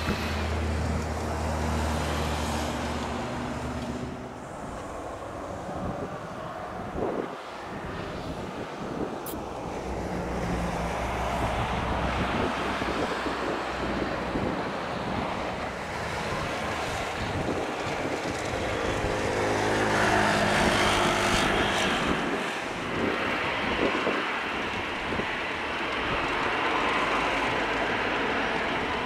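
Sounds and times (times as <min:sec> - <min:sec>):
jet engines whining at taxi power: 0:00.0 - 0:29.0
wind rumbling on microphone: 0:00.0 - 0:29.0.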